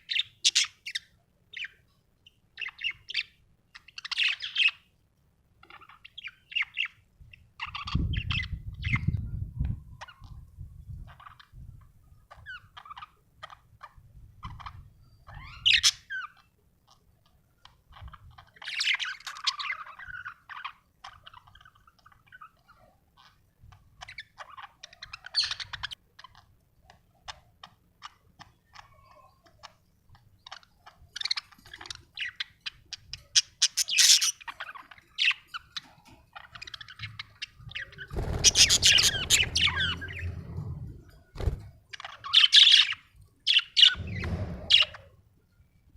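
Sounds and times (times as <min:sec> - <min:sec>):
budgerigars chirping and chattering: 0:00.0 - 0:04.9, 0:05.6 - 0:09.2, 0:10.0 - 0:11.6, 0:12.3 - 0:45.1.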